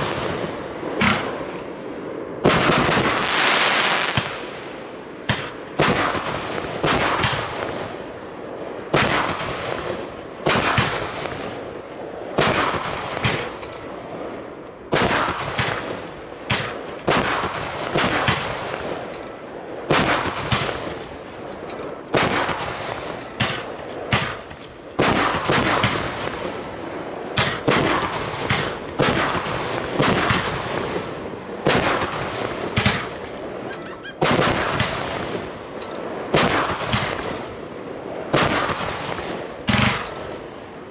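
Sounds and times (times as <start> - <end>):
firework bangs with echo: 0.0 - 1.6, 2.4 - 4.6, 5.2 - 8.0, 8.9 - 11.6, 12.4 - 13.8, 14.9 - 19.1, 19.8 - 21.2, 21.8 - 37.6, 38.2 - 40.5.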